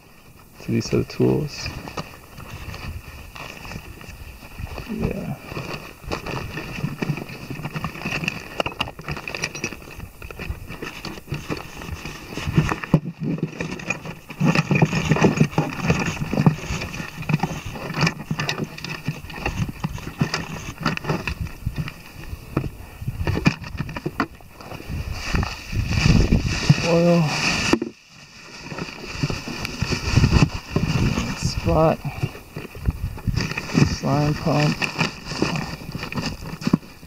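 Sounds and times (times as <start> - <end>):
rustling: 0.0 - 37.0
gear being handled and packed: 0.1 - 37.0.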